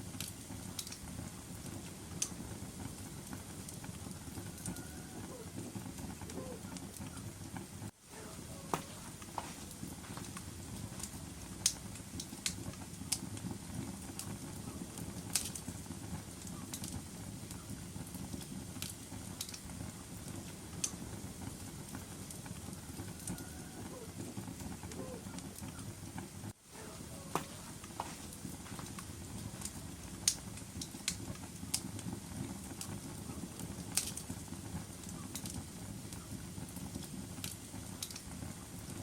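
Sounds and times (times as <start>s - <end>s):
fire crackling and popping: 0.0s - 39.0s
wood fire rumbling: 0.0s - 39.0s.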